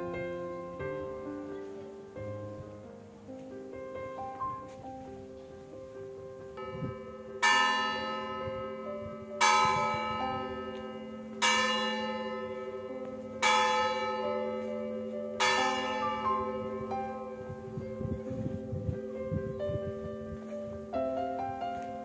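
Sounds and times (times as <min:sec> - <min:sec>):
background music with held chord: 0:00.0 - 0:22.0.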